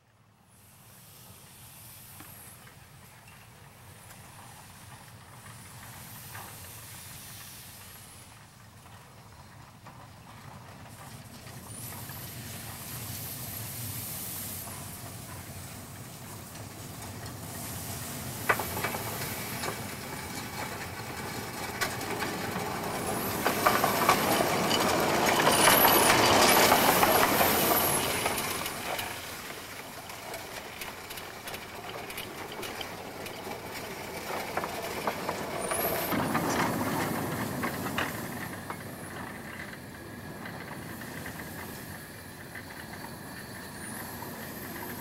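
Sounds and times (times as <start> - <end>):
steam locomotive running past: 0.0 - 45.0
steam hissing: 0.3 - 45.0.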